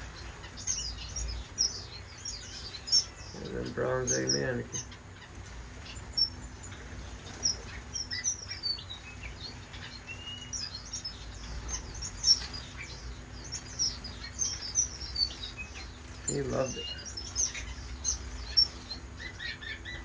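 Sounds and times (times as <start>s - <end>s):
finches chirping: 0.0s - 20.0s.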